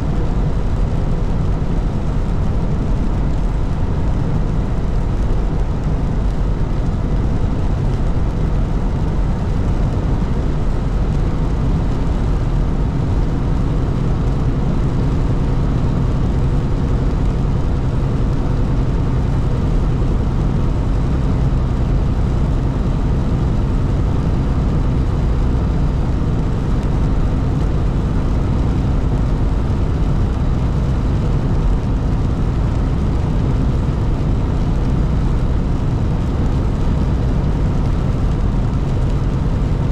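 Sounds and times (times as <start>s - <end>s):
truck driving on highway: 0.0s - 39.9s.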